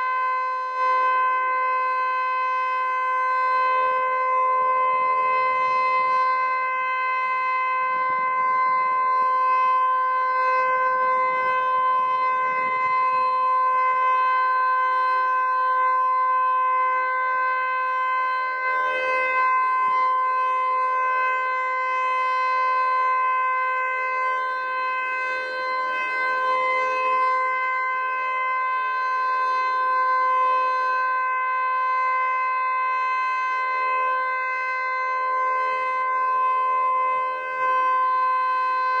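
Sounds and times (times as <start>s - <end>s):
continuous warning siren tone: 0.0s - 39.0s.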